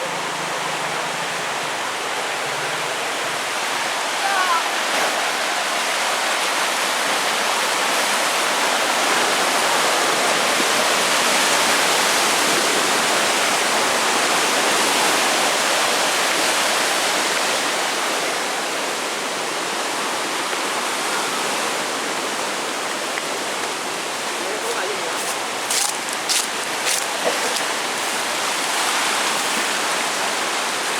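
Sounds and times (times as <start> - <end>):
rushing river water roar: 0.0 - 30.9.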